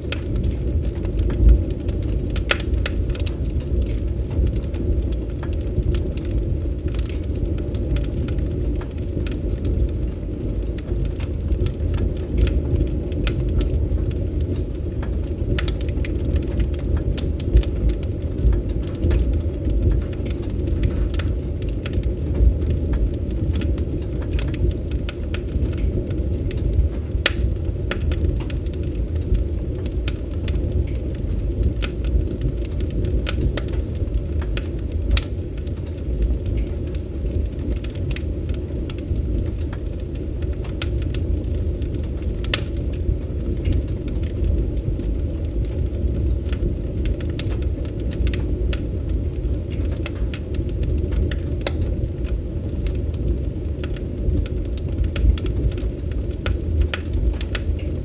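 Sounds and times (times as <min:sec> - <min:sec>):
fire crackling and popping: 0:00.0 - 0:58.0
fire rumbling: 0:00.0 - 0:58.0.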